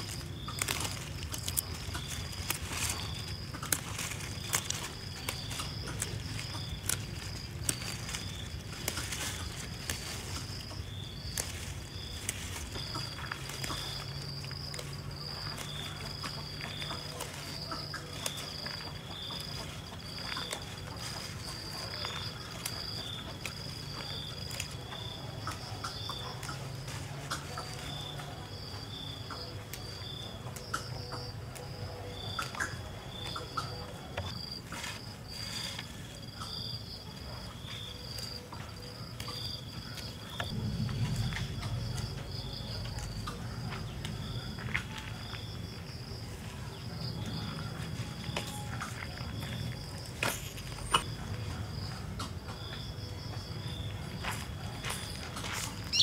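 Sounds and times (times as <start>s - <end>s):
insects chirping in pulsing trills: 0.0s - 56.0s.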